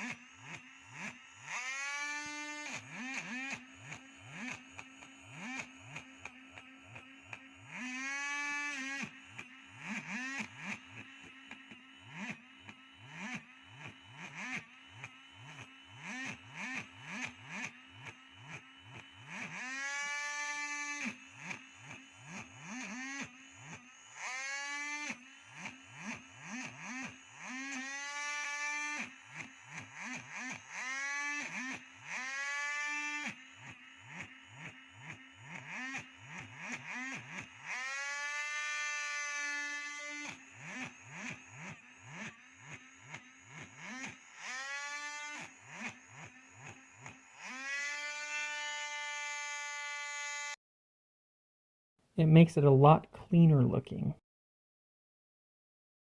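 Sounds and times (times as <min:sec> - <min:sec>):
power tool motor whining: 0:00.0 - 0:50.6.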